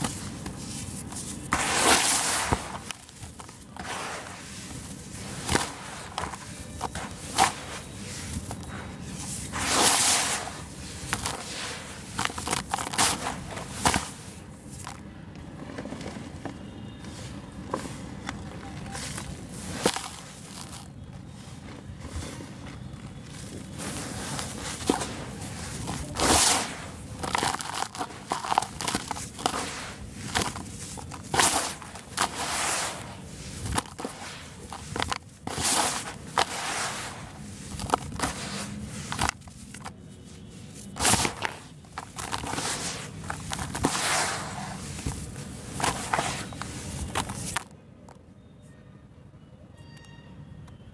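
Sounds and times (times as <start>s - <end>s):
hands crunching dry cement mix: 0.0s - 47.7s.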